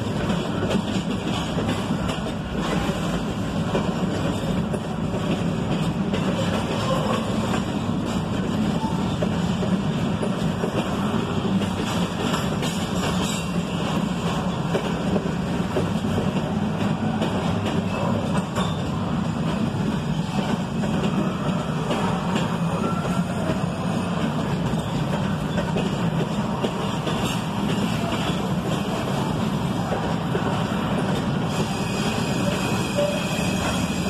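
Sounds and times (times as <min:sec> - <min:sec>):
clicks and rattles from train cars: 0:00.0 - 0:34.0
train wheels rumbling on rails: 0:00.0 - 0:34.0.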